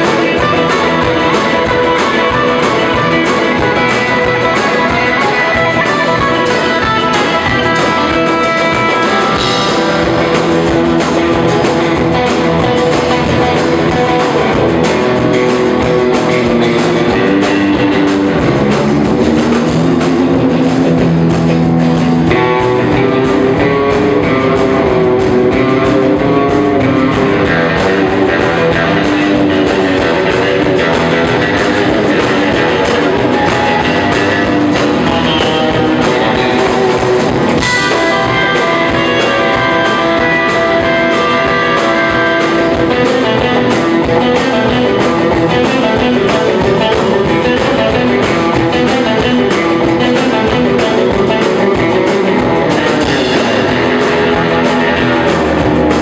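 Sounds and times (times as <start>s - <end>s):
bass guitar: 0.0s - 56.0s
drum kit beat: 0.0s - 56.0s
electric guitar melody: 0.0s - 56.0s.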